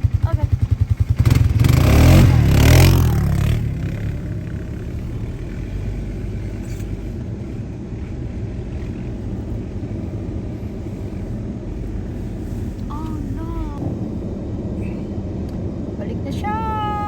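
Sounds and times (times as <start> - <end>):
atv engine droning: 0.0 - 17.0.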